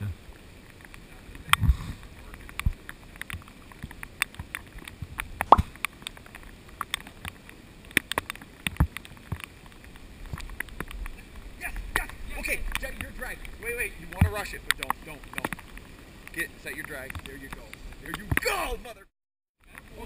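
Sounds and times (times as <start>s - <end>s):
raindrops ticking on camera: 0.0s - 19.0s, 19.6s - 20.0s
faint steady hiss: 0.0s - 20.0s.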